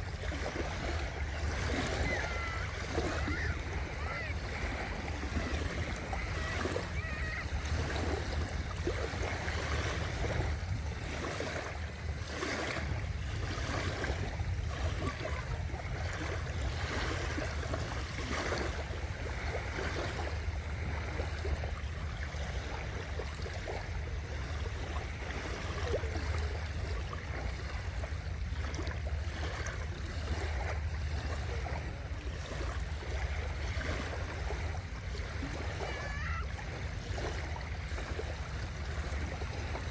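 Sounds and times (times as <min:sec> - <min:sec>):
sea waves splashing: 0:00.0 - 0:39.9.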